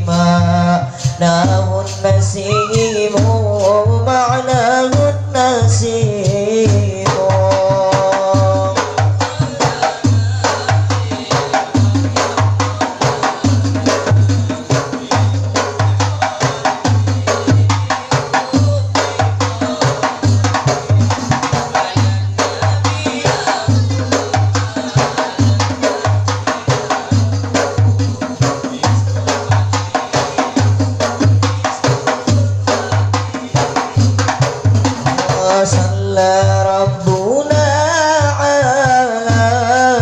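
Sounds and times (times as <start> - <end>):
deep bass drum beats: 0.0 - 40.0.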